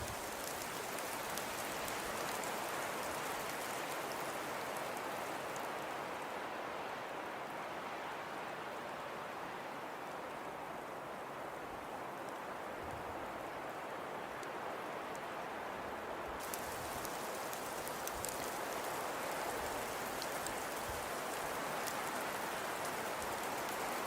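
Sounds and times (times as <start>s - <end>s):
snowfall soft hiss: 0.0s - 24.0s.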